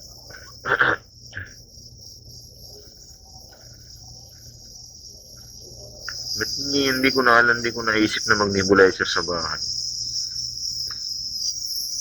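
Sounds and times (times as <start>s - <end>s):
nebulizer hissing: 0.0s - 2.1s, 2.7s - 12.0s.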